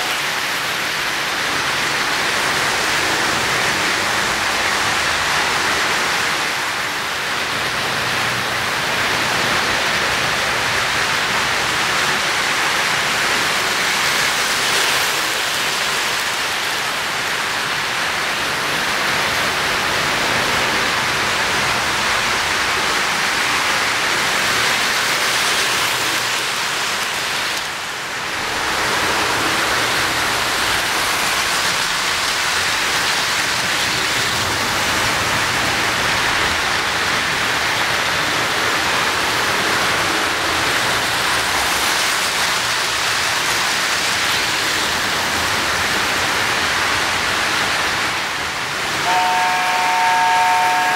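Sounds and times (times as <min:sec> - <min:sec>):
model train wheels rumbling: 0:00.0 - 0:50.9.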